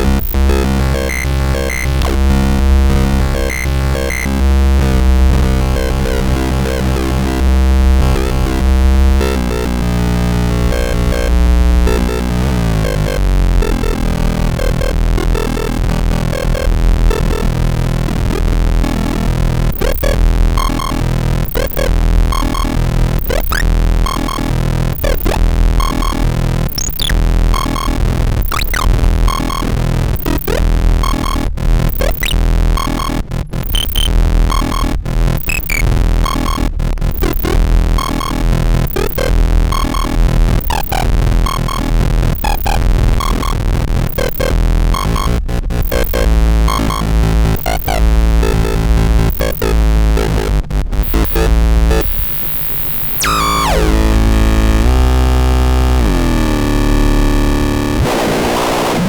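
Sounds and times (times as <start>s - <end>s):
heavy low bass: 0.0s - 59.0s
synthesizer drones: 0.0s - 59.0s.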